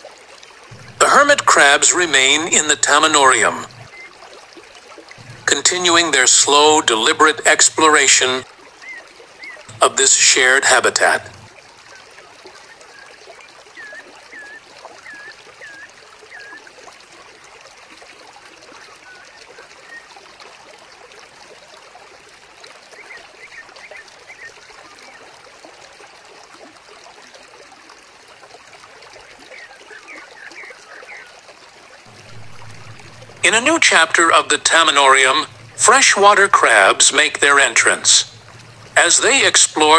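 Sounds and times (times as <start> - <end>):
small waterfall trickling: 0.0 - 39.9.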